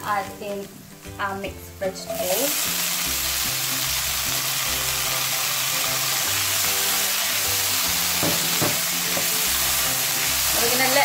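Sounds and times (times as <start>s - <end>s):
background music: 0.0s - 11.0s
vegetables sizzling in oil: 0.0s - 11.0s.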